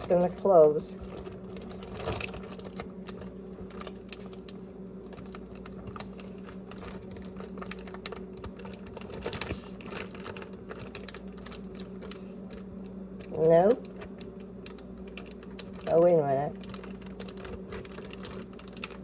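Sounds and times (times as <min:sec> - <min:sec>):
low electrical hum: 0:00.0 - 0:19.0
plastic zip bag crinkling: 0:00.0 - 0:19.0.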